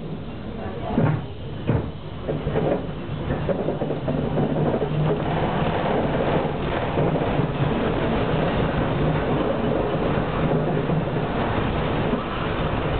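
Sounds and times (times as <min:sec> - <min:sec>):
rolling rail noise: 0:00.0 - 0:12.9
tram motor hum: 0:00.0 - 0:12.9.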